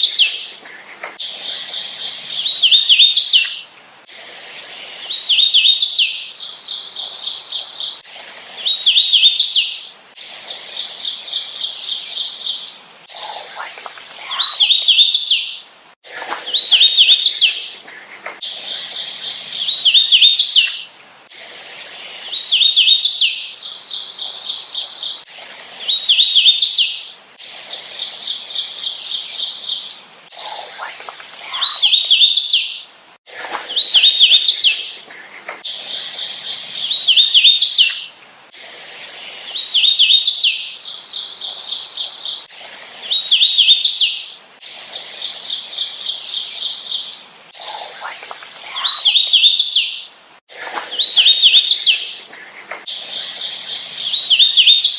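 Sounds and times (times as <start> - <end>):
warbler singing: 0.0 - 3.7, 4.7 - 21.0, 21.8 - 38.2, 39.1 - 44.4, 45.0 - 54.9.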